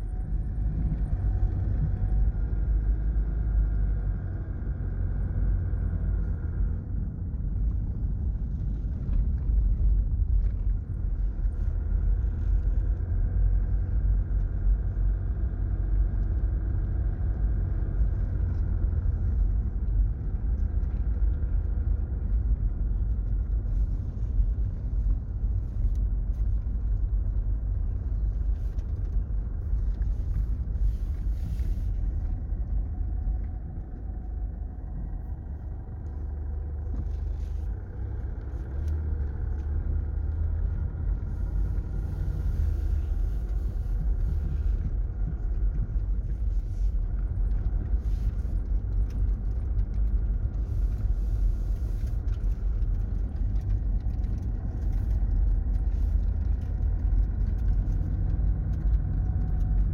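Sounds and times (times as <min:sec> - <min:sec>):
engine and tyres rumbling: 0:00.0 - 0:59.9.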